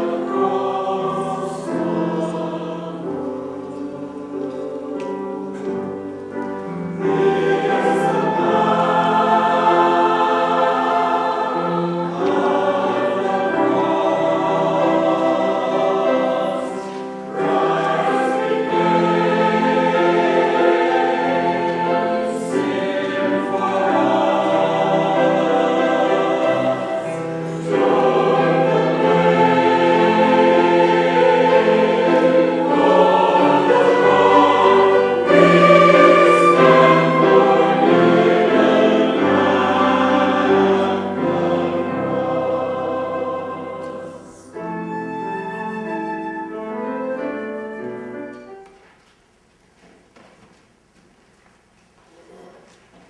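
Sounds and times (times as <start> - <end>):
choir singing in harmony: 0.0 - 48.6.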